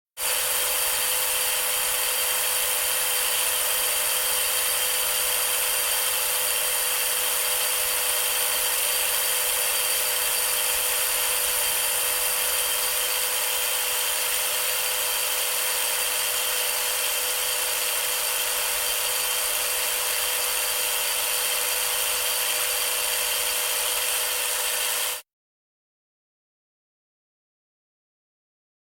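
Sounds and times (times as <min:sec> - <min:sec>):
power drill whining: 0:00.2 - 0:25.2.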